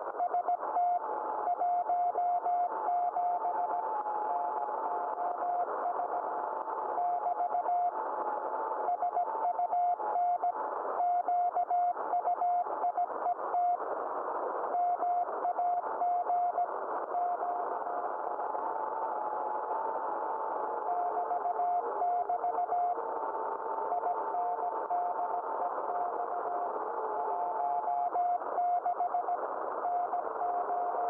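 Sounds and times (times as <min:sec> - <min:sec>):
faint steady radio tone: 0:00.0 - 0:31.0.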